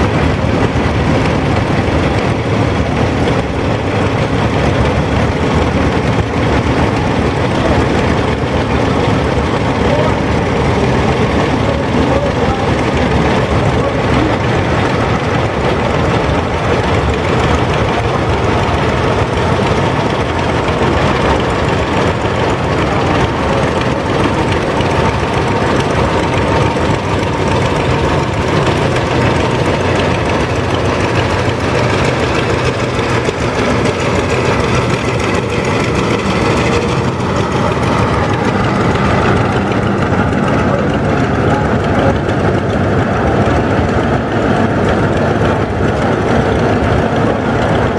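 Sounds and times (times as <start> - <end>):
tractor engines running: 0.0 - 47.9.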